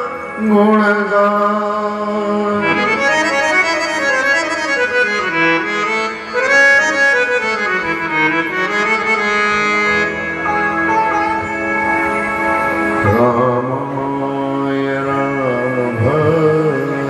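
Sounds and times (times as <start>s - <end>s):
harmonium playing: 0.0s - 17.0s.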